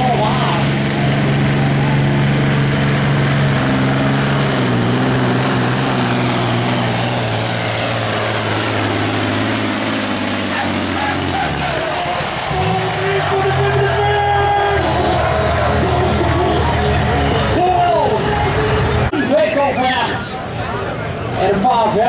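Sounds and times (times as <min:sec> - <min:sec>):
truck diesel engine running flat out: 0:00.0 - 0:21.4.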